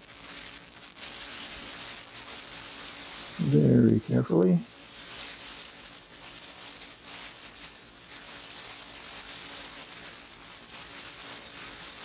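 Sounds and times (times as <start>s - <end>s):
solder sizzling: 0.0s - 12.0s.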